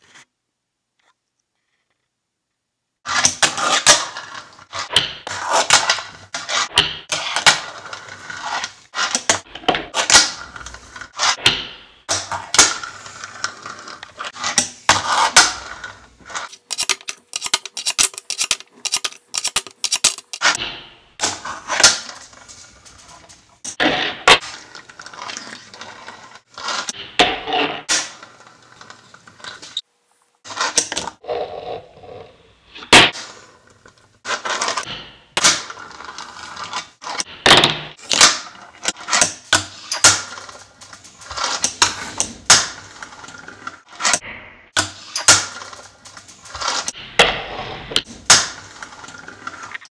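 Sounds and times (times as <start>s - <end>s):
fingerboard wheels scraping and rolling: 3.0s - 44.2s, 44.8s - 49.9s.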